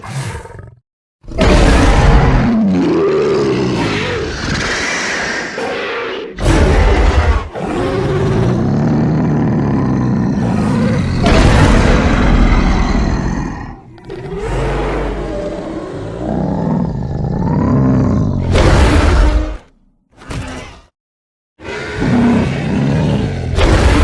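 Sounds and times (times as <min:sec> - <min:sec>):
dragon roars and growls: 0:00.0 - 0:19.7, 0:21.6 - 0:24.0.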